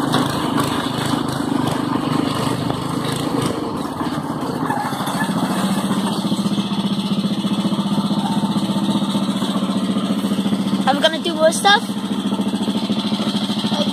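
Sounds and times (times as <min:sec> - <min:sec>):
go-kart engine running: 0:00.0 - 0:13.9.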